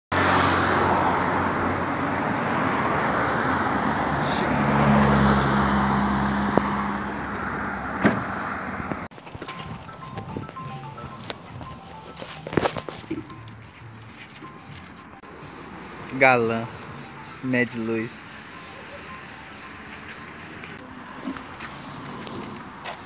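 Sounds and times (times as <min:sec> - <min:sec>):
cars passing: 0:00.1 - 0:23.0
vehicle engine hum: 0:00.1 - 0:23.0.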